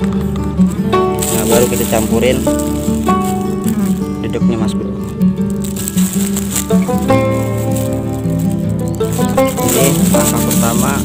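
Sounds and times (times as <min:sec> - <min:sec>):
background music sustained notes: 0:00.0 - 0:11.0.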